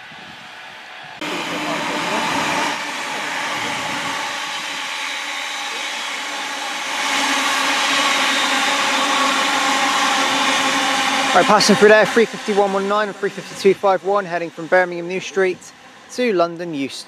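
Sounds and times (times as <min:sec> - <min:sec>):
faint train hum: 0:00.0 - 0:17.0
train wheels rushing on rail: 0:00.0 - 0:17.0.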